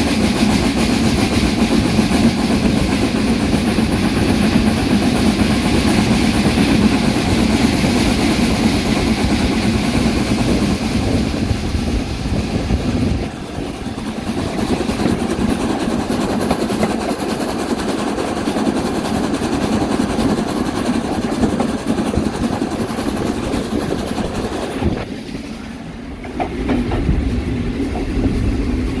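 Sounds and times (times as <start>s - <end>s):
wheels on rail: 0.0s - 29.0s.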